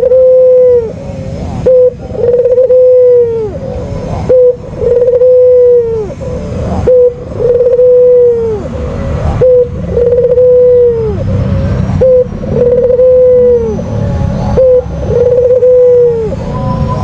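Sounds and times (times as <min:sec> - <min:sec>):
dove cooing loudly: 0:00.0 - 0:11.3, 0:12.0 - 0:13.9, 0:14.6 - 0:16.4.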